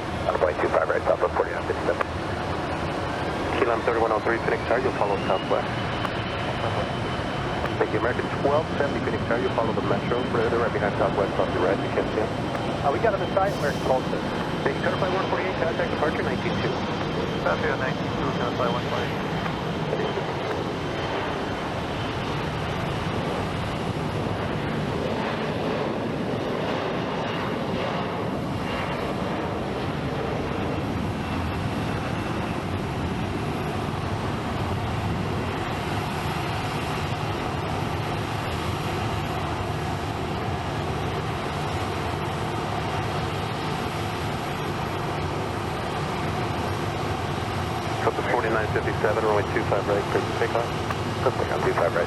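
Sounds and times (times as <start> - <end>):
airliner engines rumbling: 0.0 - 52.0.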